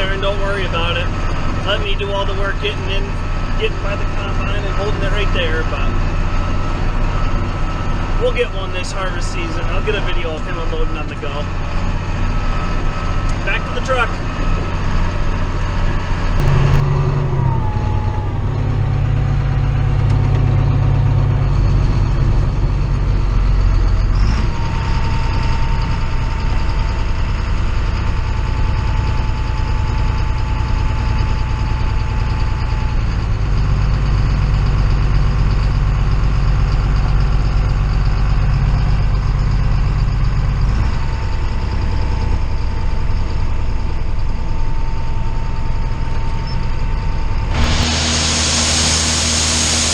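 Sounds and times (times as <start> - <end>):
truck engine with high whine: 0.0 - 49.9.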